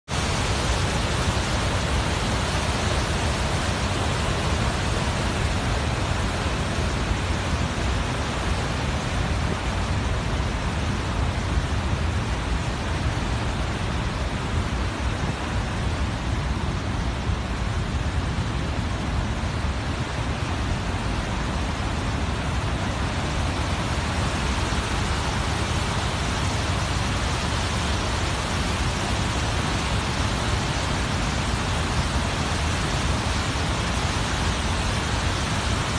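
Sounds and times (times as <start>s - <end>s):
water rushing over rocks: 0.0s - 35.9s.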